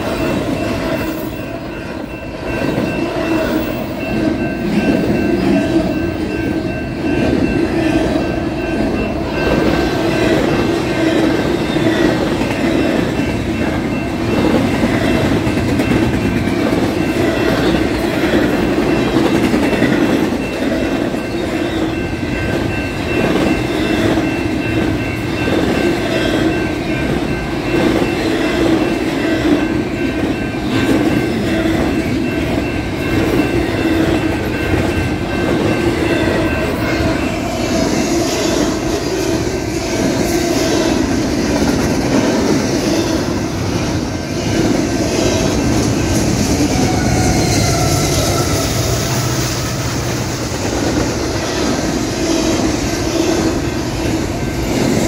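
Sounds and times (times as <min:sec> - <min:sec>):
train wheels running over rails: 0:00.0 - 0:55.0.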